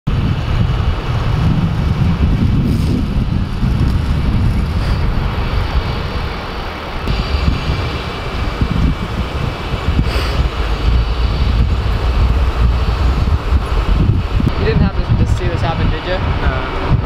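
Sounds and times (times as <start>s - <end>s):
vehicle engine noise: 0.1s - 17.0s
wind buffeting microphone: 0.1s - 17.0s.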